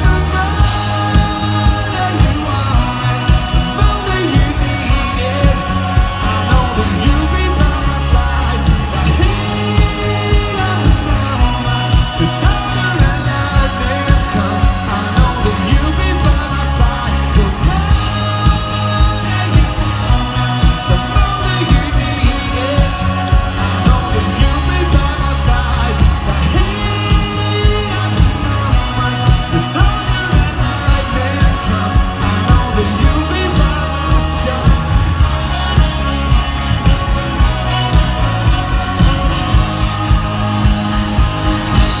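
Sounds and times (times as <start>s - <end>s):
driving drum beat: 0.0s - 42.0s
lead vocals singing: 0.0s - 42.0s
live rock band playing: 0.0s - 42.0s.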